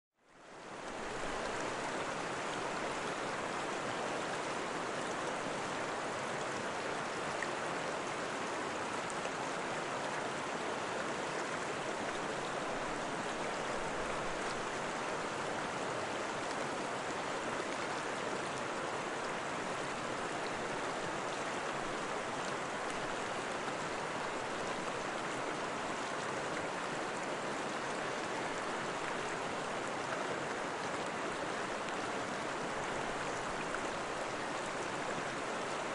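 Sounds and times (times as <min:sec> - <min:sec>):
running water rushing: 0:00.3 - 0:35.9.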